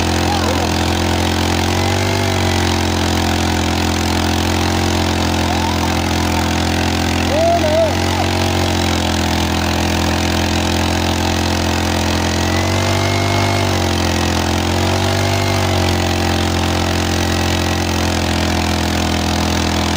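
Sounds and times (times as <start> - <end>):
engine running: 0.0 - 19.9.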